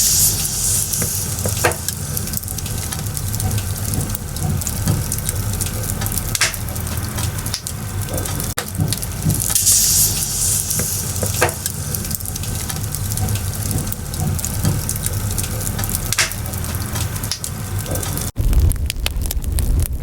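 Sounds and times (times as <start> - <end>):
firewood crackling and popping: 0.0 - 20.0
flames hissing and rumbling: 0.0 - 20.0.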